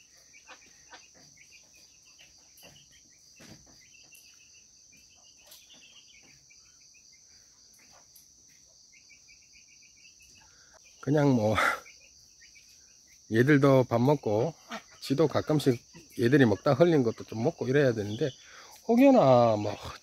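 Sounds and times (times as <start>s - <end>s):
crickets droning: 0.0s - 20.0s.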